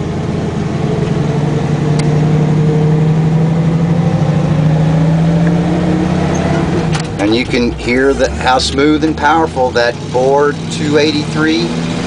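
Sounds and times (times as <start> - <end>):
pickup truck engine cruising: 0.0 - 12.0.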